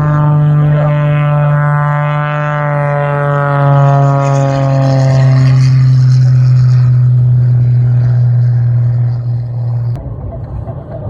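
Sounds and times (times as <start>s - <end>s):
propeller aircraft droning past: 0.0s - 10.2s.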